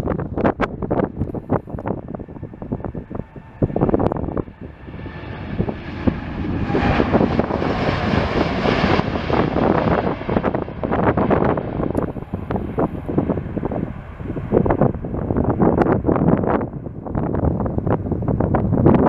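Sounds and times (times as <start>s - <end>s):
jet airliner engines passing: 0.0s - 19.0s
wind gusts buffeting microphone: 0.0s - 19.0s.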